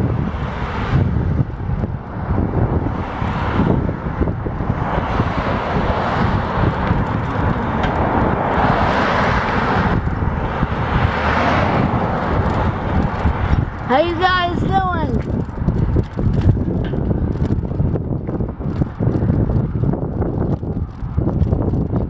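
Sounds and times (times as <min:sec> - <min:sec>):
passing traffic: 0:00.0 - 0:22.0
wind rumbling on microphone: 0:00.0 - 0:22.0.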